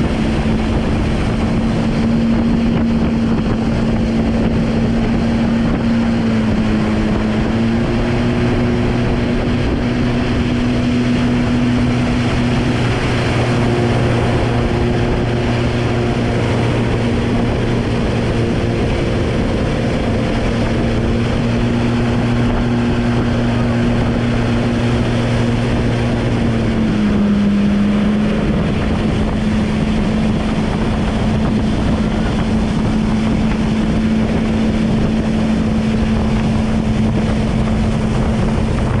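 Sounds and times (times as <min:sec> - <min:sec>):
motorboat engine running: 0:00.0 - 0:39.0
wind buffeting microphone: 0:00.0 - 0:39.0.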